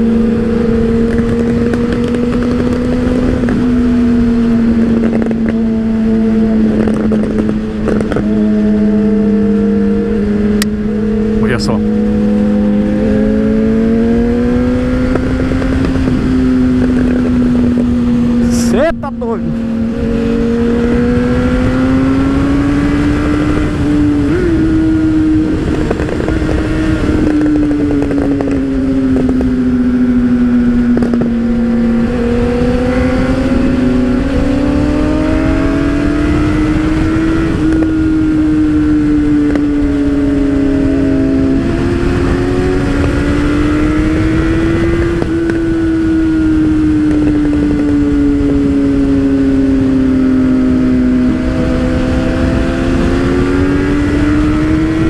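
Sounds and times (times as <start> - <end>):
motorcycle engine cruising: 0.0 - 55.0
other motorcycle engines: 0.0 - 55.0
wind rushing over microphone: 0.0 - 55.0.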